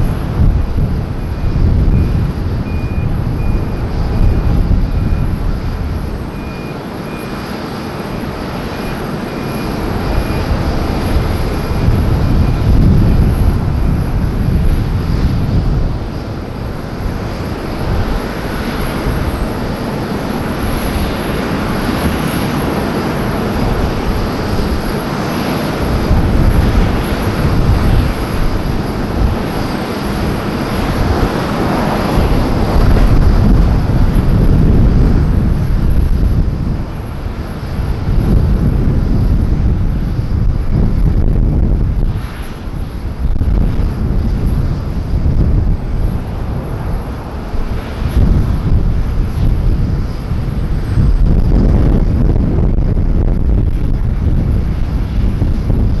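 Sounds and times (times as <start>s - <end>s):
faint high whine: 0.0s - 56.0s
jet engines rumbling: 0.0s - 56.0s.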